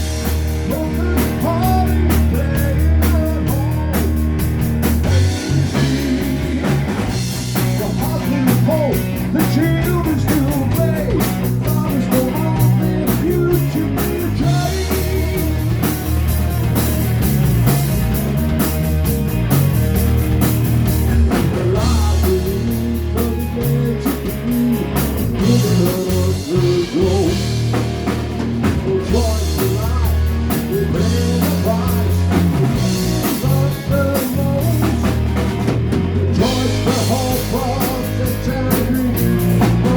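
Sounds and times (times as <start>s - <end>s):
drum kit: 0.0s - 39.9s
guitar: 0.0s - 39.9s
low bass notes: 0.0s - 39.9s
rock band playing: 0.0s - 39.9s.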